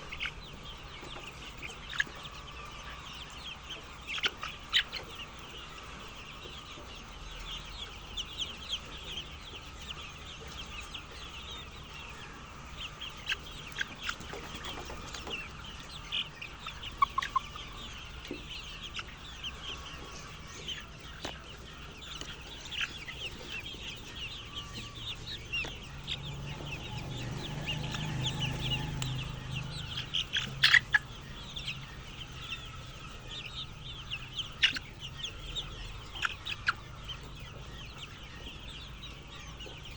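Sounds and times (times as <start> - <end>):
chickens clucking and peeping: 0.0 - 39.9.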